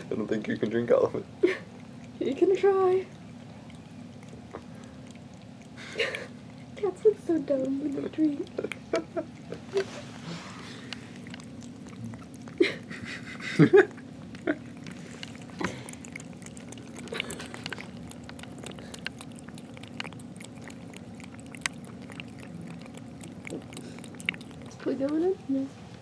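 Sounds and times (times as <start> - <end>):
cat lapping water: 0.0 - 26.0.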